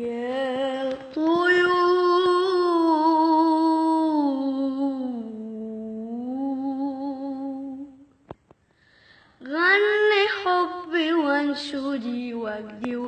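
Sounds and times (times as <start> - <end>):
person singing unaccompanied: 0.0 - 8.0, 9.4 - 13.0.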